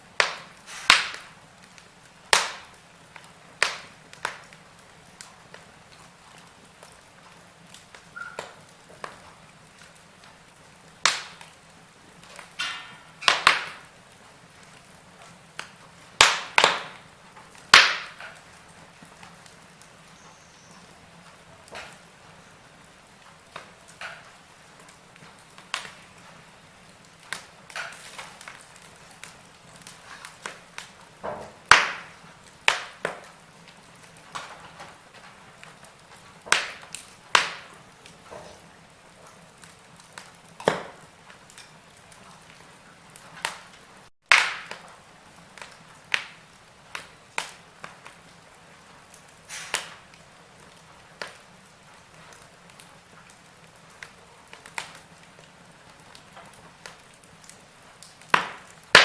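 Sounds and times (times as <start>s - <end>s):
faint steady hiss: 0.0s - 59.0s
wood fire crackling: 0.0s - 59.0s.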